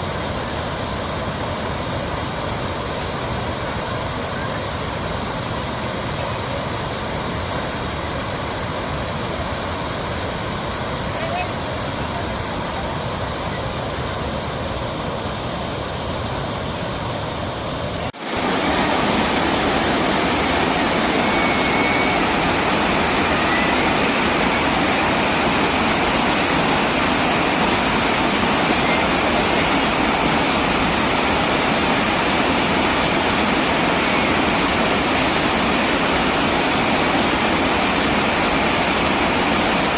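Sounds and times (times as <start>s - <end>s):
rushing floodwater: 0.0s - 39.9s.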